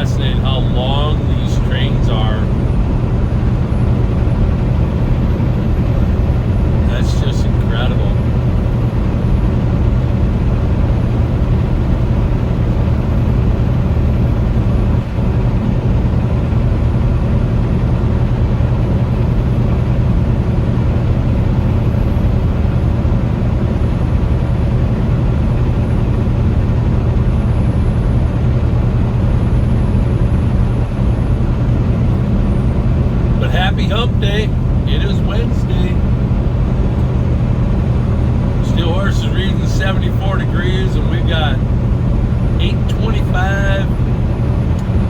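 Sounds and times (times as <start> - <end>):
truck engine and road drone: 0.0 - 45.0.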